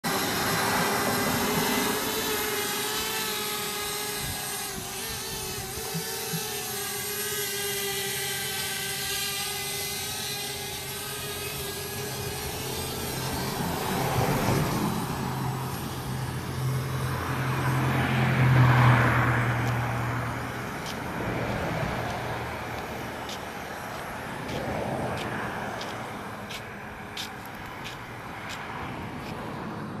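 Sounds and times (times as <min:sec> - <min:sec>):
buzzing whine: 0:00.0 - 0:29.5
road vehicles passing: 0:00.0 - 0:30.0.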